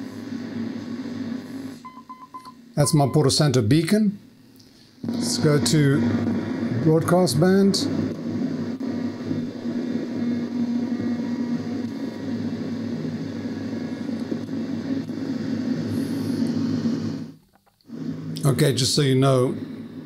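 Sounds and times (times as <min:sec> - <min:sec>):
radio static with buzzing hum: 0:00.0 - 0:20.0.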